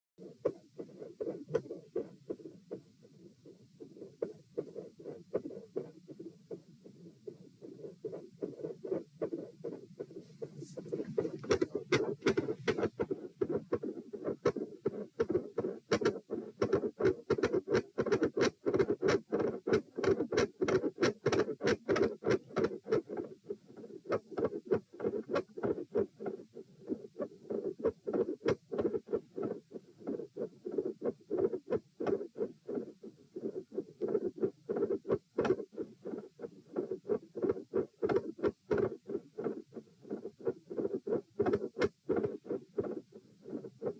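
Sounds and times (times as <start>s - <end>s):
heartbeat through stethoscope: 0.2s - 43.9s.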